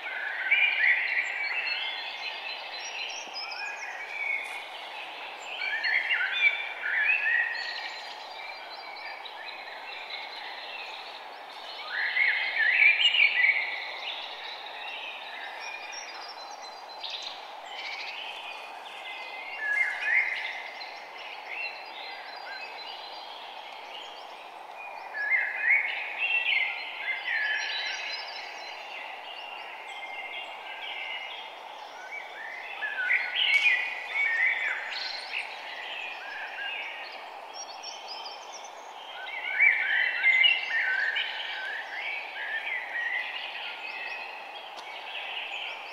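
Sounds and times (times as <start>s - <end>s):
birds chirping: 0.0s - 45.9s
steady background hiss: 0.0s - 45.9s.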